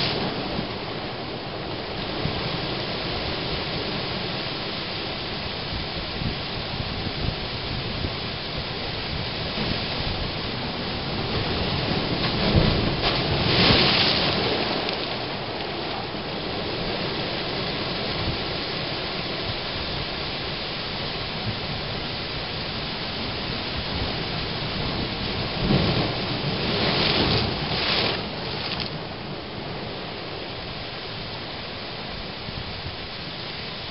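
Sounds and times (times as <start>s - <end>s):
ocean surf washing on rocks: 0.0s - 33.9s
water surging through blowhole: 0.0s - 33.9s.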